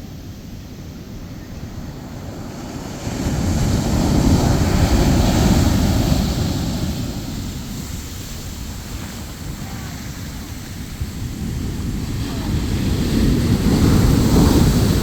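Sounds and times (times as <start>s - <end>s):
ocean wave breaking: 1.6s - 15.0s.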